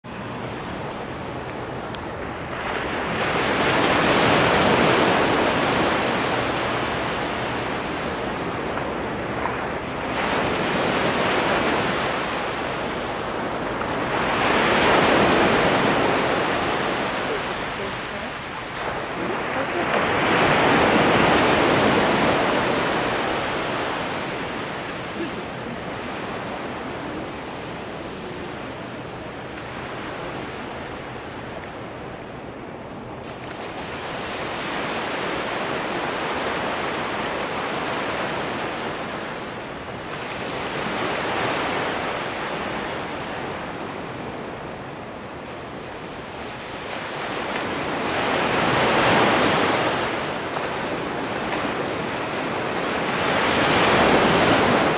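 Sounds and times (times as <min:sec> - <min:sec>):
surf breaking on a beach: 0:00.1 - 0:54.9.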